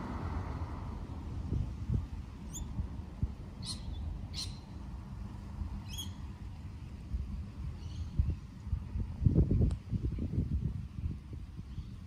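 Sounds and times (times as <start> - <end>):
wind buffeting microphone: 0.0 - 4.5, 5.6 - 12.0.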